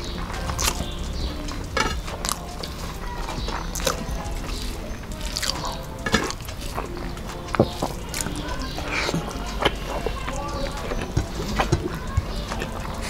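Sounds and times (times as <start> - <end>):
chewing and lip smacks: 0.0 - 13.0
fingers squelching rice: 0.0 - 13.0.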